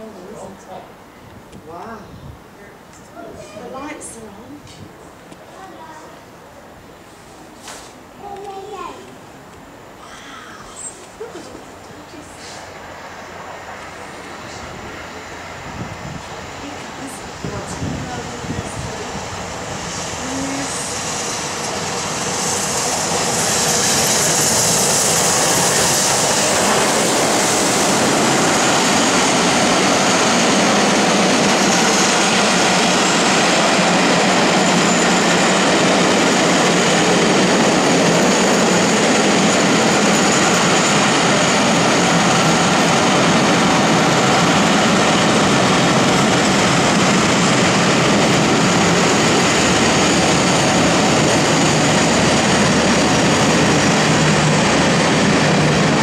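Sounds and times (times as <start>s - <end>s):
train passing at speed: 0.0s - 56.0s.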